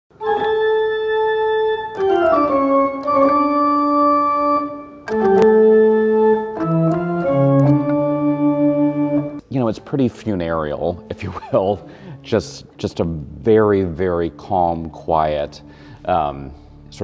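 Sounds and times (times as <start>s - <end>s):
pipe organ chords: 0.2s - 17.0s.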